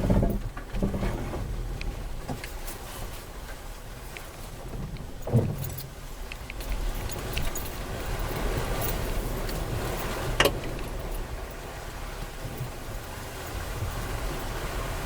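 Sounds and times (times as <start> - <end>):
rattles and clicks: 0.0 - 2.9, 4.1 - 14.7
vehicle rumbling over rough ground: 0.0 - 15.0.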